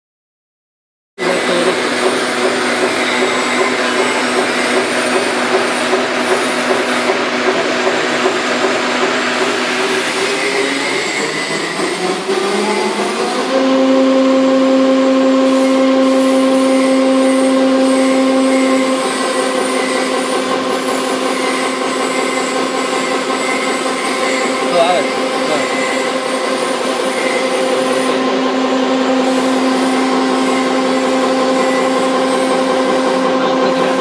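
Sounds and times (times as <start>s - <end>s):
machinery with humming whine: 1.2s - 34.0s.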